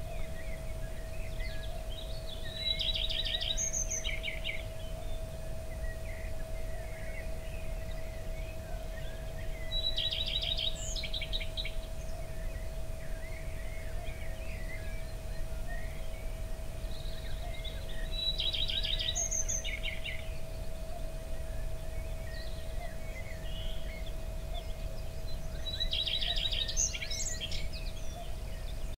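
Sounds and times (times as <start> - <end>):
songbird trilling: 0.0 - 28.9
faint steady hum: 0.0 - 29.0
soft bird chirps: 0.0 - 29.0.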